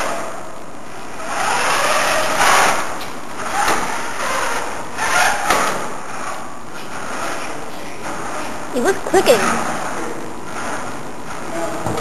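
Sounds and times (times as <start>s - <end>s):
robot electric motors running: 0.0s - 11.9s.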